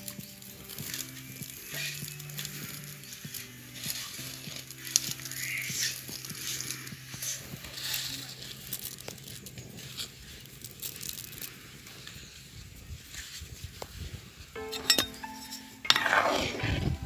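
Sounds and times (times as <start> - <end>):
hot food crackling and fizzing: 0.0 - 14.3.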